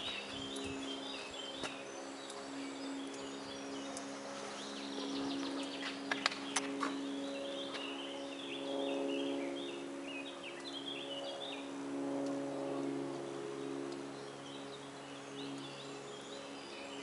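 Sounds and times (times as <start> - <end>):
low drone of held tones: 0.0 - 17.0
songbirds singing: 0.0 - 17.0.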